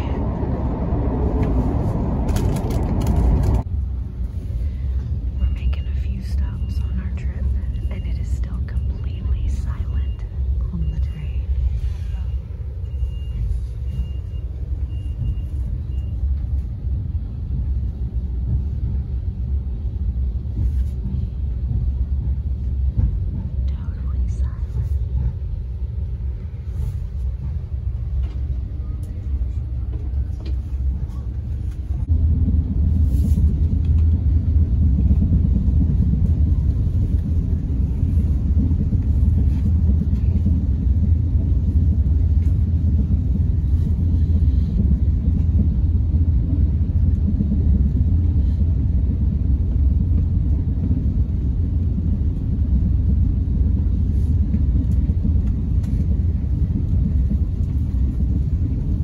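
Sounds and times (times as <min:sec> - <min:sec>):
train cabin rumble: 0:00.0 - 0:59.0.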